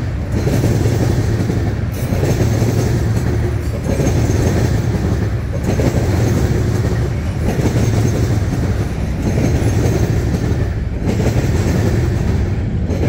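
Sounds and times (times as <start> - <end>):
freight train rumbling past: 0.0 - 13.0
train wheels clacking on rail joints: 0.0 - 13.0.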